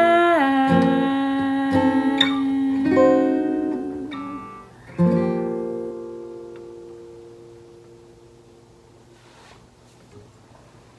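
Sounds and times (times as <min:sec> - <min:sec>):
acoustic guitar chords: 0:00.0 - 0:09.2.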